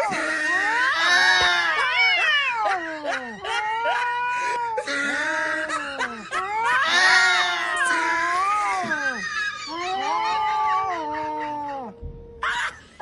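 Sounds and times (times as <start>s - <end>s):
cats yowling angrily: 0.0s - 12.8s.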